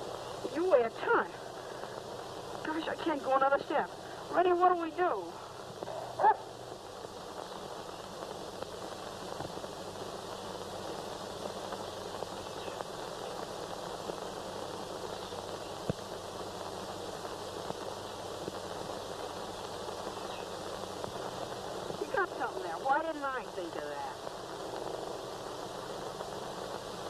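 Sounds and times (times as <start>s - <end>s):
film soundtrack hiss and crackle: 0.0s - 27.0s.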